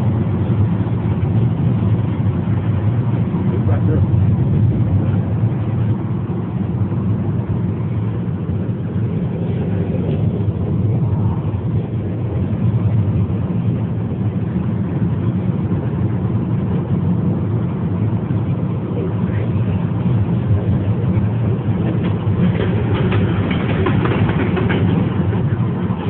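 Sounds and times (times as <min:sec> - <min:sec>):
car cabin road and engine rumble: 0:00.0 - 0:26.0.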